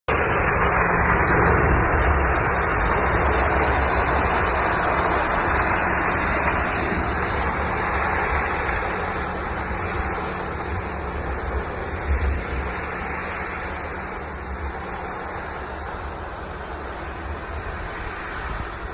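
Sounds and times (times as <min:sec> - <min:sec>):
engine and tyre rumble: 0:00.0 - 0:18.9.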